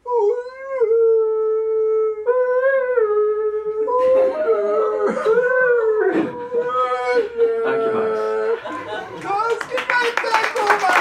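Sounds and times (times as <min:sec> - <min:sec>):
voice howling: 0:00.0 - 0:09.0.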